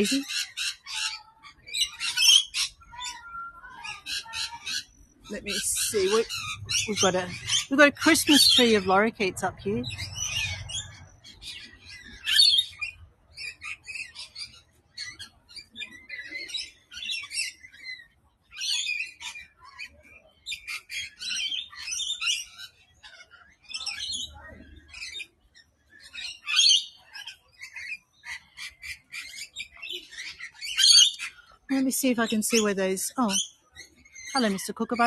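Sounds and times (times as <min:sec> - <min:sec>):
lorikeets screeching and chattering: 0:00.0 - 0:35.0.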